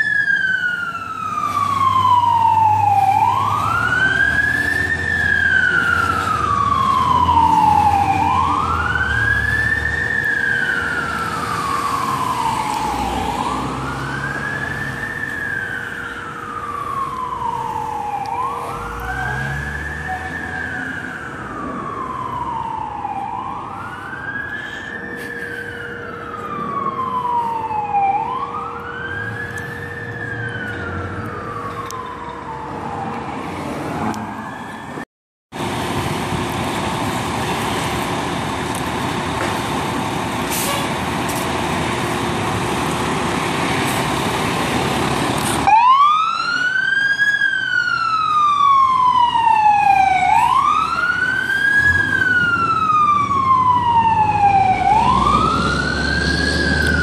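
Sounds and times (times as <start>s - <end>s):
fire truck siren wailing: 0.0s - 57.0s
low rumble of traffic: 0.0s - 57.0s.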